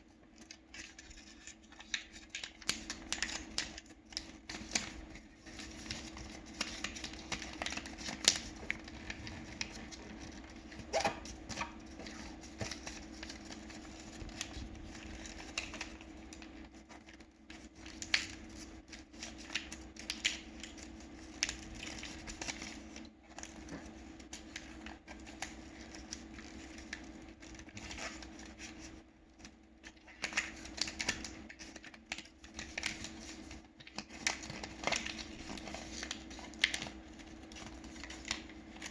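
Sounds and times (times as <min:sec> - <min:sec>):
paper crinkling and crackling: 0:00.0 - 0:38.9.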